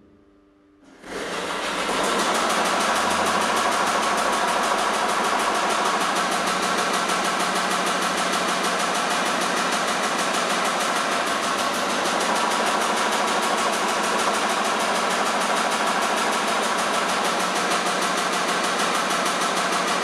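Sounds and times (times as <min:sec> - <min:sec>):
vibrating motors rattling buzz: 0:00.8 - 0:20.0.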